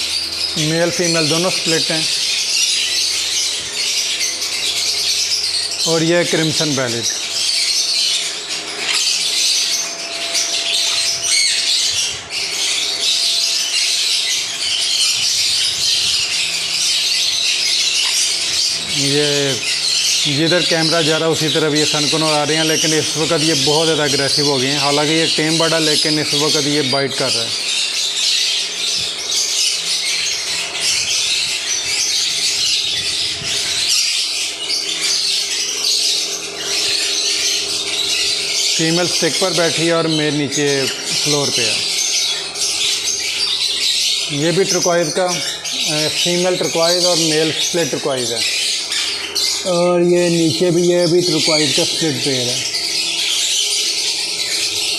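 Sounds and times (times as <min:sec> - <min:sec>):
conures squawking: 0:00.0 - 0:54.9.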